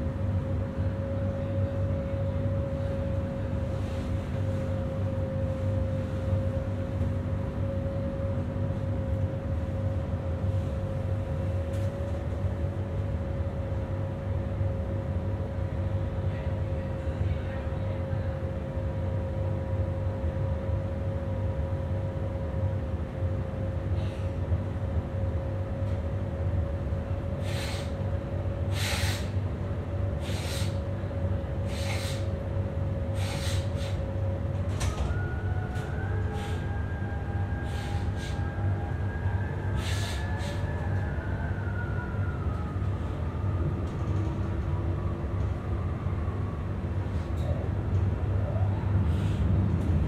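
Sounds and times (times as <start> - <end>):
train low rumble with whine: 0.0 - 50.0.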